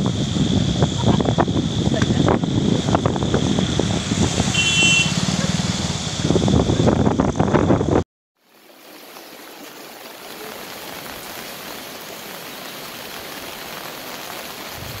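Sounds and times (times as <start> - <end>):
rushing floodwater: 0.0 - 6.9, 8.4 - 15.0.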